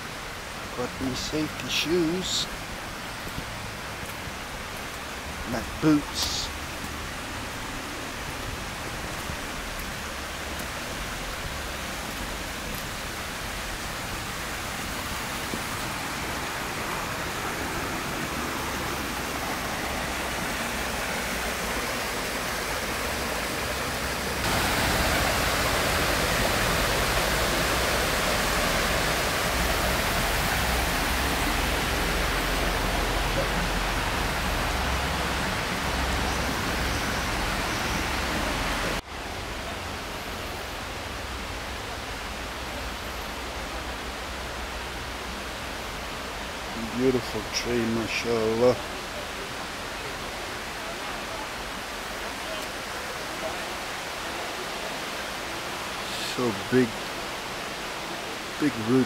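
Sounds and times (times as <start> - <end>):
creek water rushing over rocks: 0.0 - 59.0.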